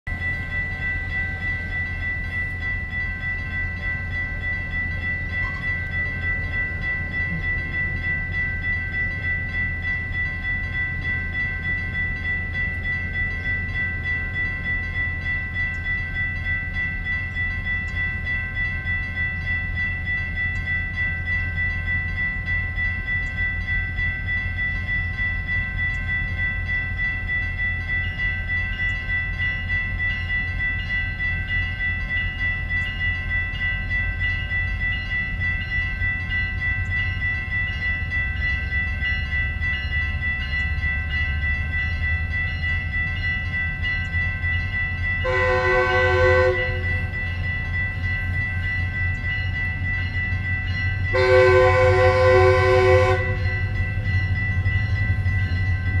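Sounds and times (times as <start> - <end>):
crossing warning bell ringing: 0.1 - 56.0.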